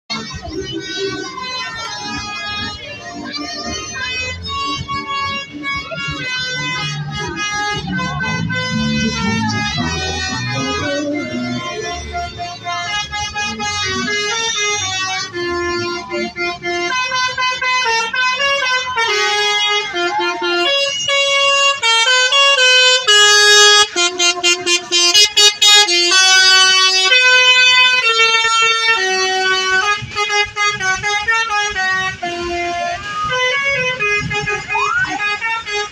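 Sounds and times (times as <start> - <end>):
multi-tone bus horn tune: 0.1 - 35.9.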